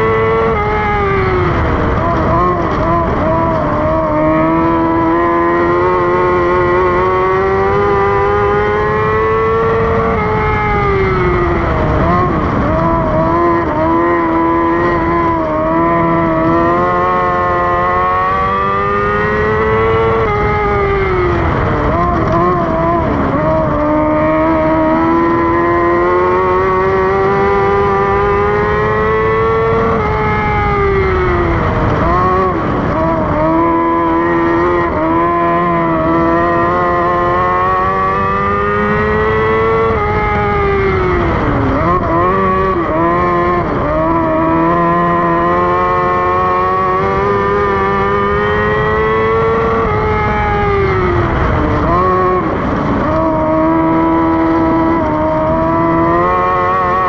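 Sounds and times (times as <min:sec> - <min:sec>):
high-revving race car engine: 0:00.0 - 0:57.0.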